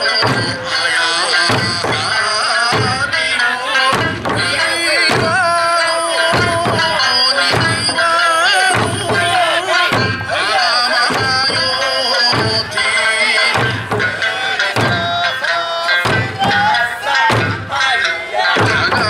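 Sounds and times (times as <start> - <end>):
drums struck: 0.0 - 19.0
person singing over loudspeakers: 0.0 - 19.0.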